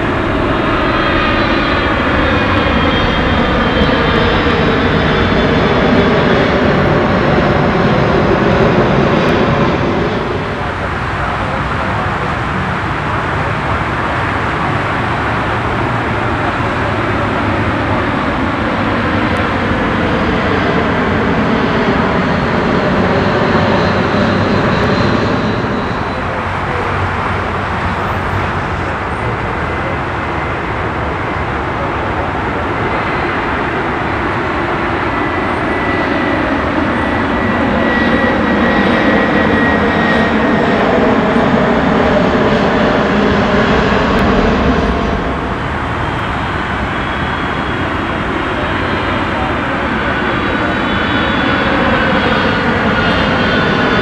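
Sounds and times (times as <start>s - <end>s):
airliner jet engines passing overhead: 0.0s - 54.0s
high jet whine: 0.0s - 54.0s.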